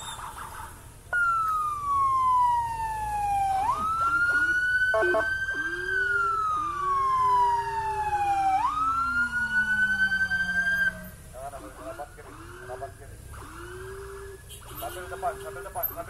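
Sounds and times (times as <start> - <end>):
electronic siren sliding tone: 1.1 - 16.0
lower gliding siren tone: 1.1 - 16.0.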